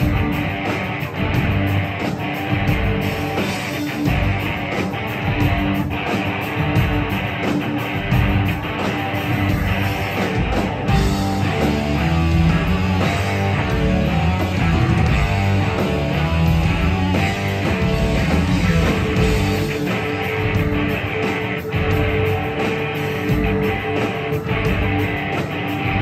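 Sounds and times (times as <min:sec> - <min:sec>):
drum kit: 0:00.0 - 0:26.0
electric guitars: 0:00.0 - 0:26.0.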